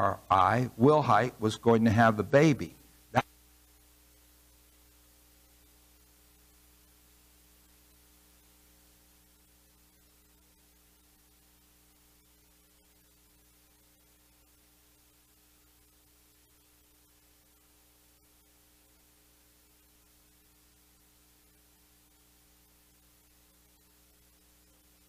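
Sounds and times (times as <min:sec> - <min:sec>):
faint electrical hum and hiss: 0:00.0 - 0:25.0.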